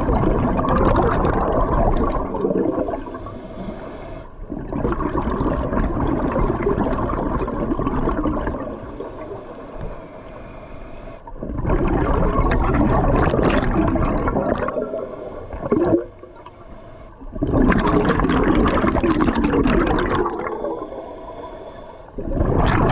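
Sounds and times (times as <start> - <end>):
underwater exhaled bubbles gurgling: 0.0 - 10.4, 11.2 - 22.9.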